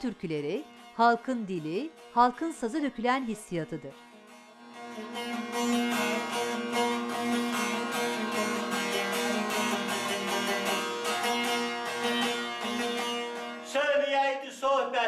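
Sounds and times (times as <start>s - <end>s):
long-necked lutes strummed: 0.0s - 15.0s.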